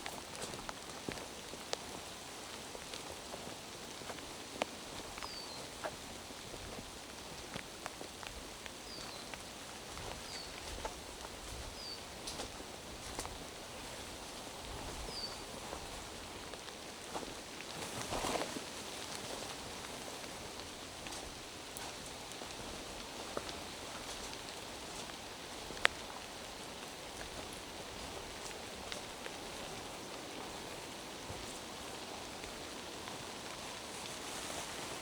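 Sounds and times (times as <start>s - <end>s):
steady rain in a forest: 0.0s - 35.0s.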